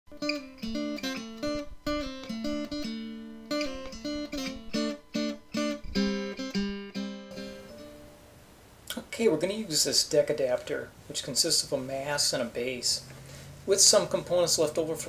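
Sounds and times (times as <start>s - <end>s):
acoustic guitar picking: 0.1s - 15.0s.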